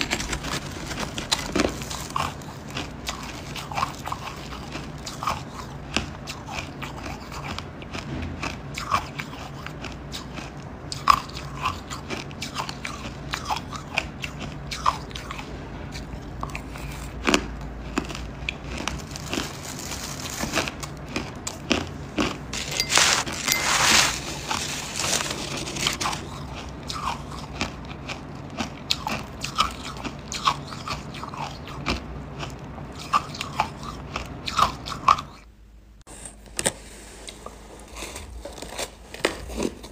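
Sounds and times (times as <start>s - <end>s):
chewing crunchy ice: 0.0s - 35.4s, 37.3s - 39.9s.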